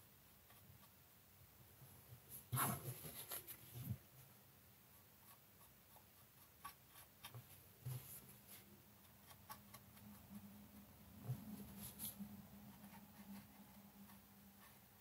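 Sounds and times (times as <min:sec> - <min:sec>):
low steady hum: 0:00.0 - 0:15.0
paintbrush ticks and scrapes: 0:00.3 - 0:01.0, 0:02.3 - 0:15.0.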